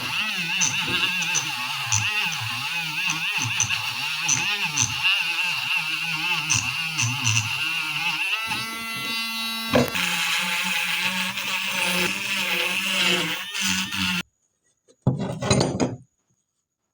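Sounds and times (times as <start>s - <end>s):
power tool running: 0.0s - 14.2s.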